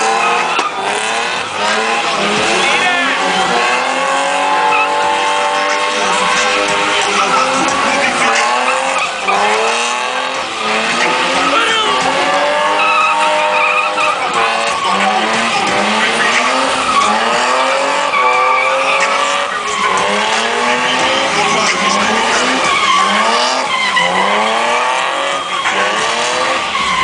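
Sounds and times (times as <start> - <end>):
car engine revving: 0.0 - 27.0
tyres skidding and squealing: 0.0 - 27.0.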